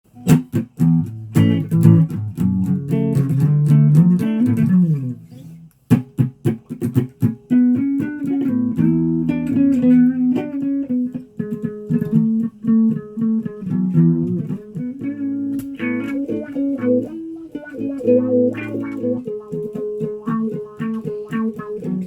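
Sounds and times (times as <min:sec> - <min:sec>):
guitar being plucked: 0:00.1 - 0:22.0.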